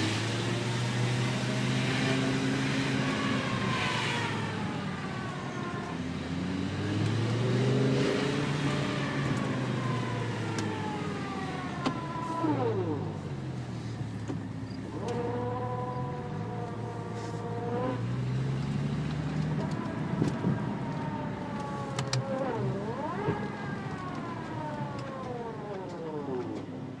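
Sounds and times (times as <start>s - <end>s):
car whine while coasting: 0.0s - 27.0s.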